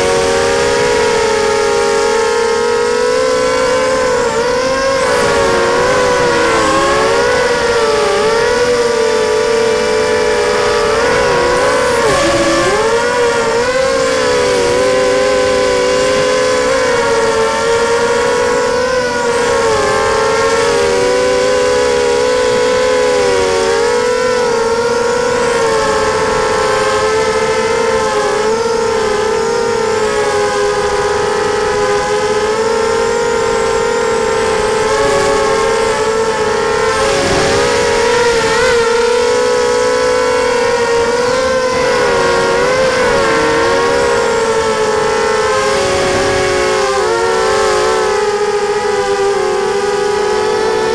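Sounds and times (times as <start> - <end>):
quadcopter motors whining: 0.0 - 50.9.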